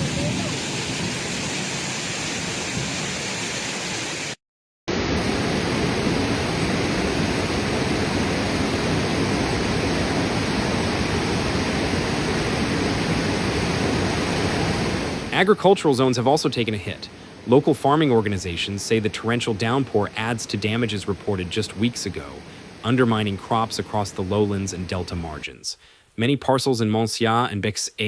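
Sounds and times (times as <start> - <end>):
water rushing: 0.0 - 25.6.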